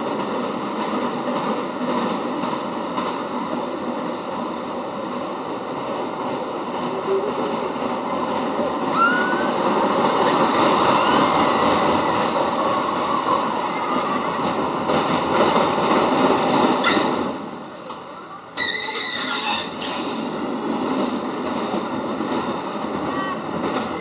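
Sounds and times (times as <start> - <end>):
roller coaster wheels rumbling: 0.0 - 24.0.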